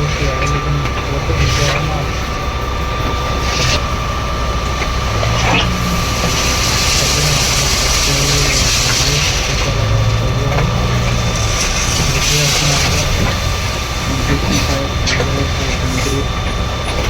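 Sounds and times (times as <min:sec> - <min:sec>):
hissing rush: 0:00.0 - 0:17.0
machinery drone with thin whine: 0:00.0 - 0:17.0.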